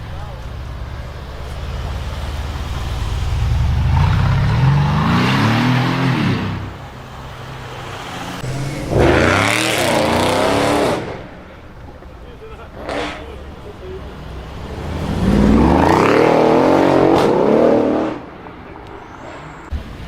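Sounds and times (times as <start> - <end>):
car exhaust revving: 0.0 - 11.7, 12.8 - 18.3.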